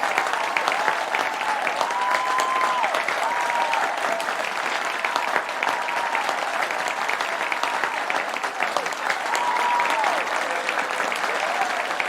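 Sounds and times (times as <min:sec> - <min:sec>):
crowd applauding and cheering: 0:00.0 - 0:12.0.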